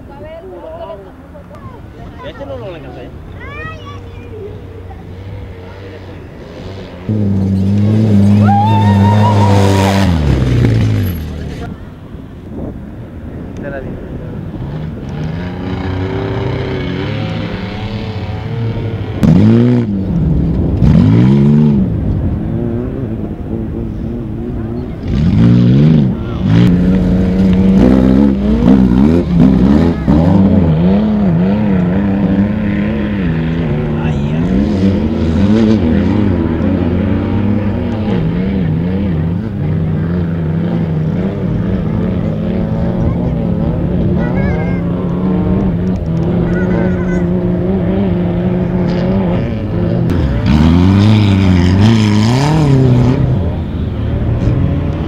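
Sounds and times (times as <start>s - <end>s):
off-road engines revving: 0.0s - 55.0s
rush of noise: 1.8s - 55.0s.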